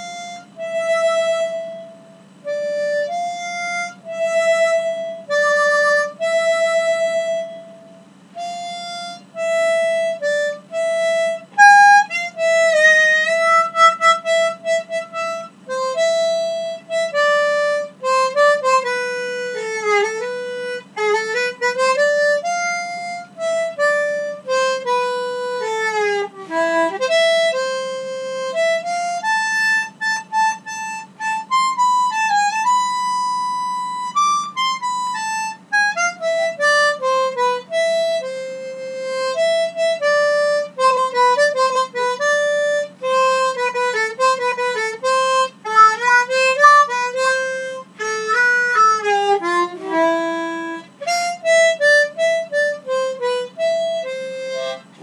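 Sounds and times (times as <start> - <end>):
harmonica slow melody: 0.0 - 55.0.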